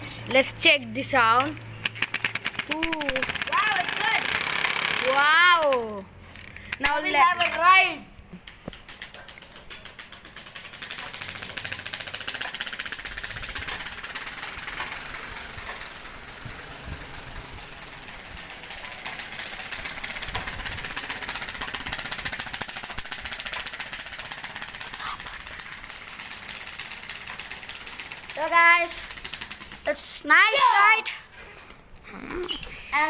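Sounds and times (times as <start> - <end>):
card flapping against bicycle spokes: 1.3 - 30.3.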